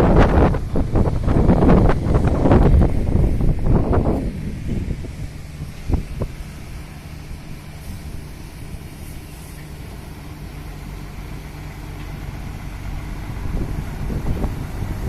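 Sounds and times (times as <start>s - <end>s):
constant hiss: 0.0s - 15.0s
vehicle engine humming: 0.0s - 15.0s.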